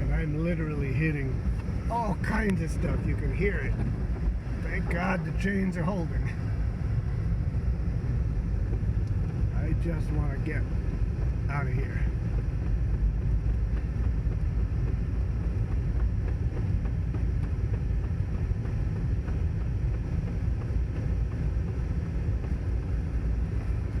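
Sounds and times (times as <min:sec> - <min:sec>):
car driving on snow: 0:00.0 - 0:24.0.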